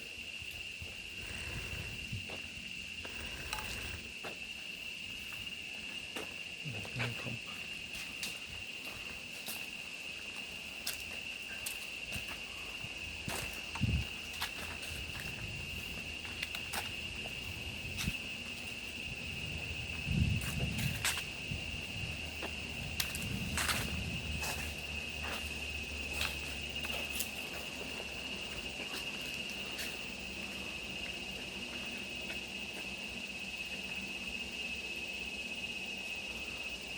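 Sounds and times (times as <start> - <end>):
insect drone: 0.0 - 36.9.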